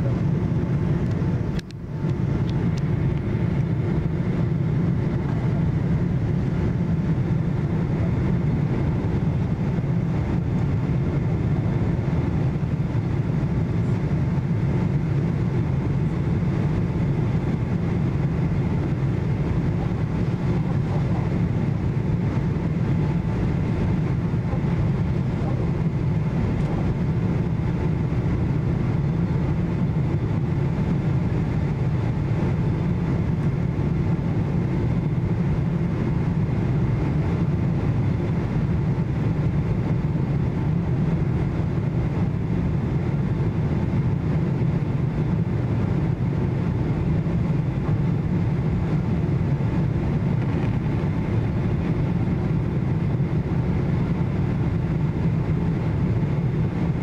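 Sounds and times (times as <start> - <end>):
faint steady whine: 0.0 - 57.0
jet engine and airflow rumble: 0.0 - 57.0.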